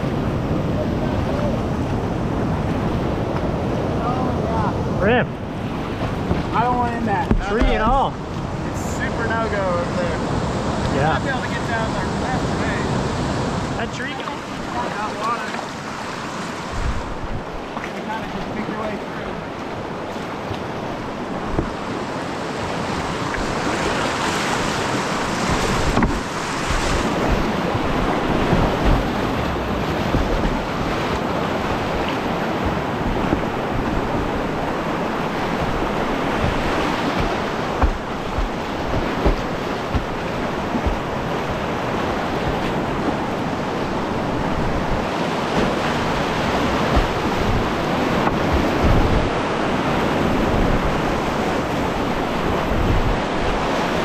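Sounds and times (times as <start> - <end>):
water splashes: 0.0 - 54.0
whitewater rapids rushing: 0.0 - 54.0.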